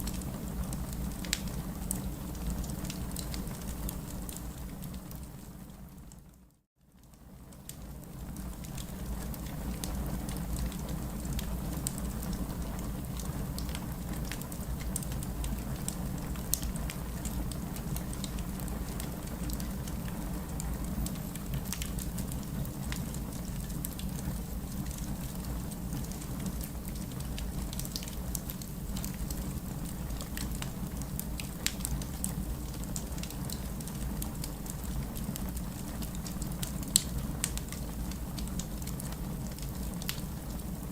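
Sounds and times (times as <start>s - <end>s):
fireplace crackling and popping: 0.0s - 6.3s, 7.0s - 40.9s.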